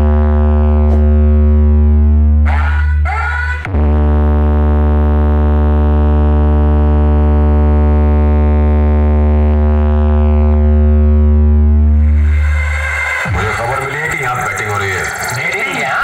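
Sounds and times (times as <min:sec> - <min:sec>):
synthesizer drone with heavy bass: 0:00.0 - 0:16.0.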